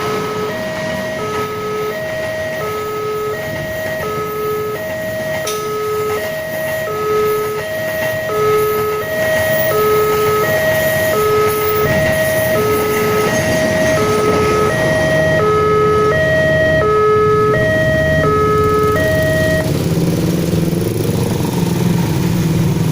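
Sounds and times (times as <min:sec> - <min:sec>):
level crossing two-tone alarm: 0:00.0 - 0:19.7
vehicle engines running: 0:00.0 - 0:22.9.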